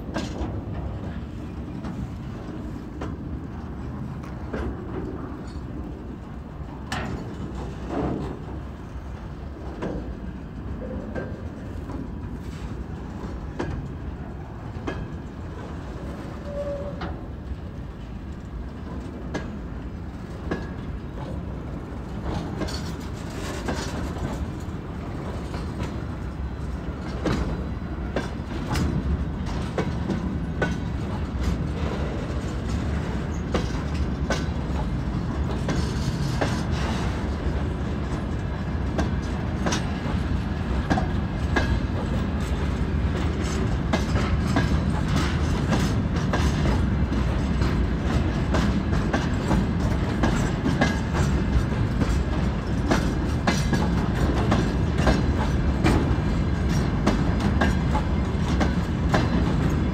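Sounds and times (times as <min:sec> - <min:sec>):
low train rumble: 0:00.0 - 0:59.9
train wheels clicking over rail joints: 0:00.0 - 0:59.9.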